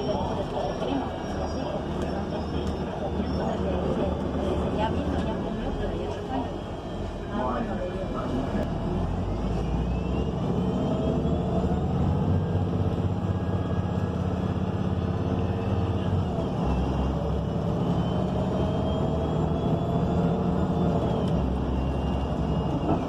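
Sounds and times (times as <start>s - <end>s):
bus engine rumble and whine: 0.0s - 23.0s.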